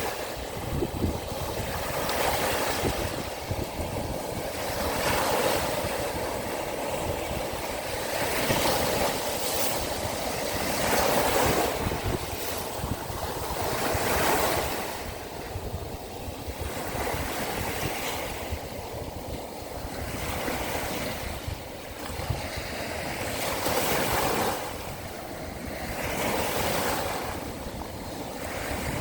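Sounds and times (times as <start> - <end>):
waves breaking on shore: 0.0 - 29.0
wind buffeting microphone: 0.0 - 29.0.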